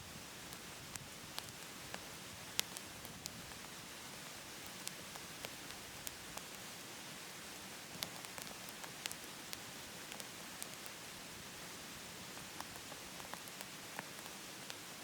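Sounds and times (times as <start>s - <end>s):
wood fire crackling and popping: 0.2s - 6.8s, 7.4s - 11.1s, 12.2s - 14.8s.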